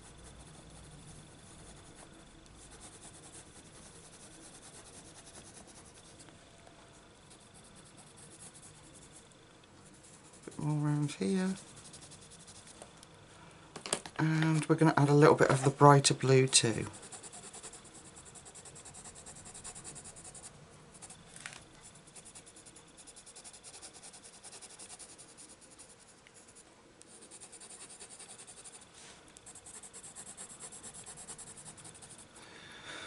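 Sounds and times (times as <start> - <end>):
pencil scratching on paper: 0.0 - 6.3, 7.3 - 12.8, 16.8 - 21.2, 21.8 - 32.4.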